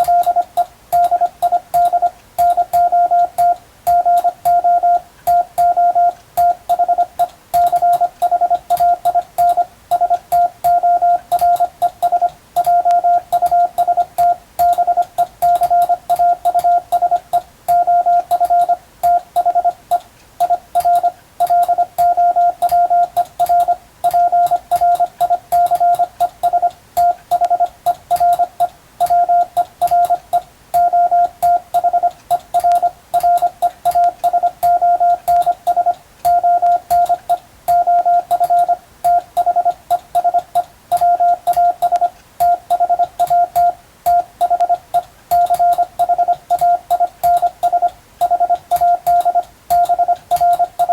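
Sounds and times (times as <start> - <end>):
morse code tone: 0.0 - 50.9.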